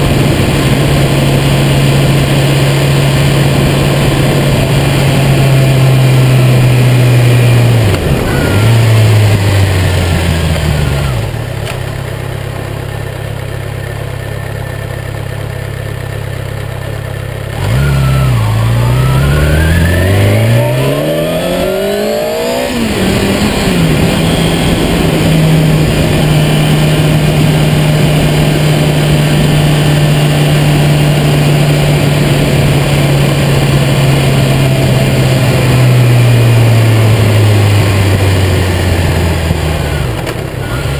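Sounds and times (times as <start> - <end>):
wind rushing over microphone: 0.0 - 11.3, 17.6 - 40.2
motorcycle engine revving: 0.0 - 40.9.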